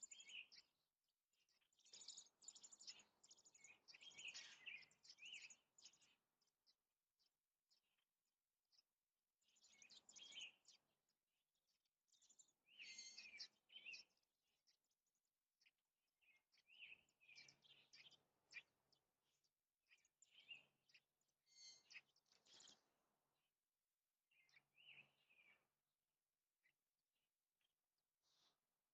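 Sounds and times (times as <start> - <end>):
faint birdsong chirps: 0.0 - 28.9.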